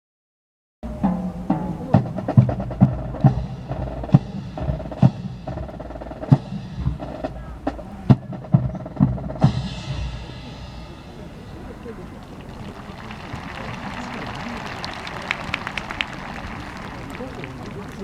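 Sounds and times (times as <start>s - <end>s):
drums beating march: 0.8s - 18.0s
held musical tones: 0.8s - 18.0s.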